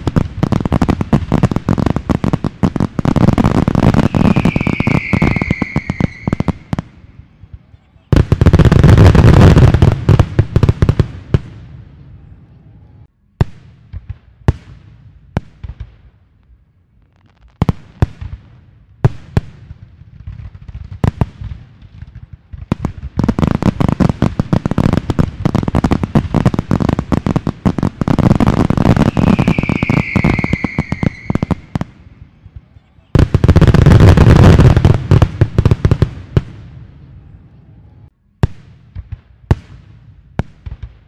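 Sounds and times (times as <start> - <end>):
fireworks bangs and crackling: 0.0 - 41.0.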